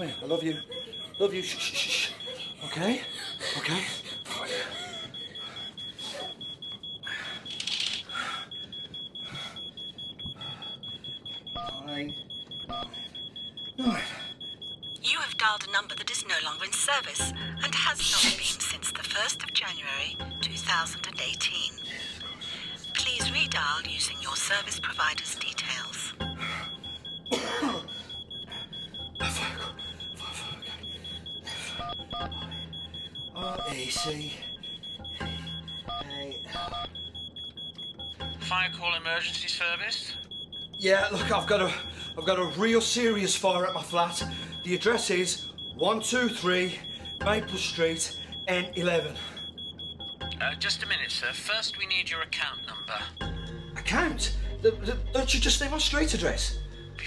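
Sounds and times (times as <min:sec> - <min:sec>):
phone keypad beep: 0:00.0 - 0:57.0
smoke alarm beeping: 0:00.0 - 0:57.0.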